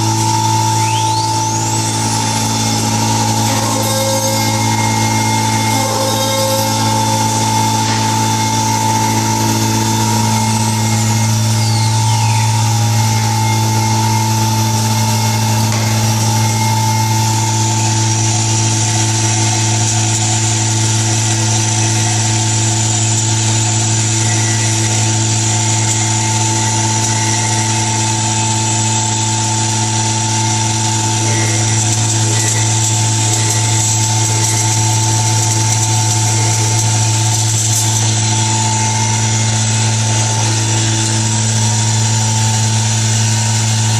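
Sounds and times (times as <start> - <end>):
falling whine: 0.0 - 43.9
higher whine: 0.0 - 43.9
wood router humming: 0.0 - 43.9.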